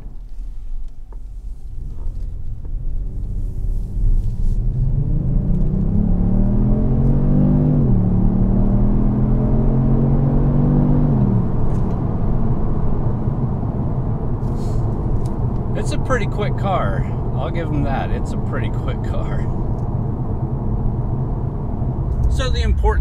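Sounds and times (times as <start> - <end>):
low road rumble: 0.0 - 23.0
car engine accelerating: 1.7 - 23.0.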